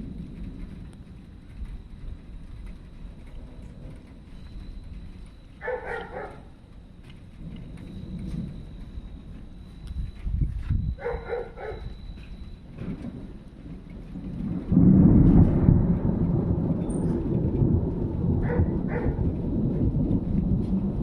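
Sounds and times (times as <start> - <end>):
thunder crack and rumble: 0.0 - 21.0.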